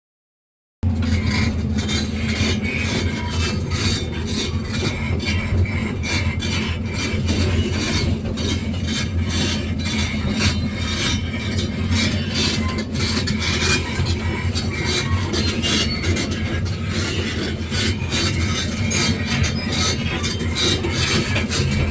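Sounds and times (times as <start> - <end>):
diesel engine running: 0.8 - 21.9
metallic knocks and scrapes: 1.0 - 21.9.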